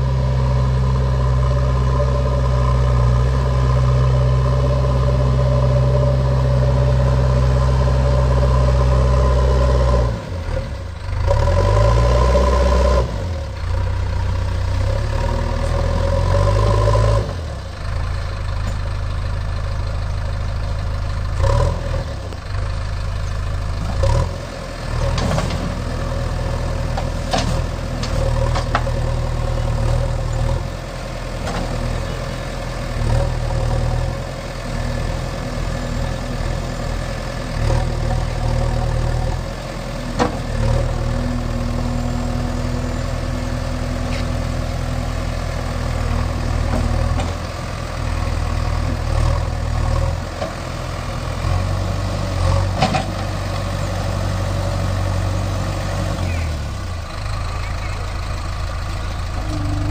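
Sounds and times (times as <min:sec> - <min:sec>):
diesel engine running under load: 0:00.0 - 0:59.9
loader bucket pushing soil: 0:00.0 - 0:59.9.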